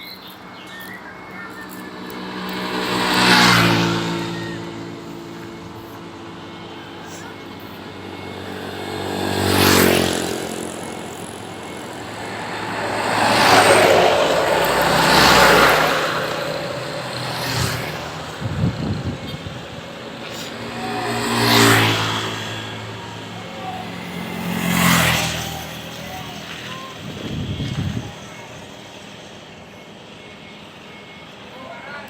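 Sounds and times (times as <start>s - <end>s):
vehicles passing by: 0.0s - 32.0s.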